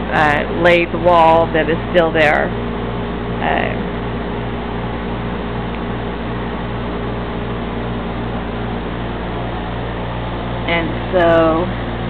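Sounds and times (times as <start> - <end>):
dehumidifier humming: 0.0 - 12.0.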